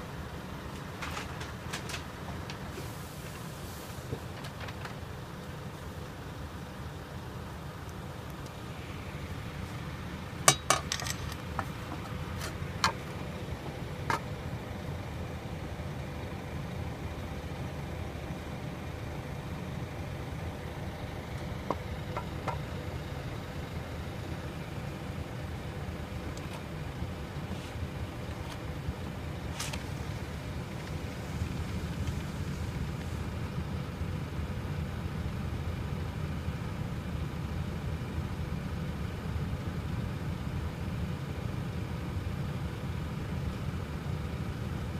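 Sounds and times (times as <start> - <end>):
diesel engines idling: 0.0 - 44.9.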